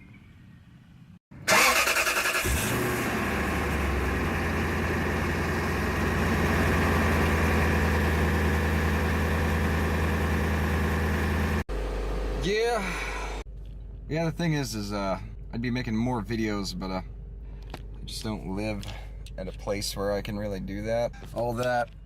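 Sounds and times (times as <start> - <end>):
car engine starting and idling: 1.3 - 22.0.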